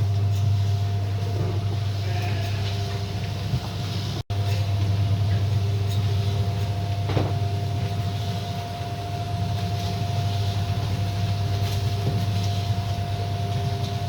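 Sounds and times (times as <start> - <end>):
constant high whine: 0.0 - 14.0
mixing machine motor drone: 0.0 - 14.0.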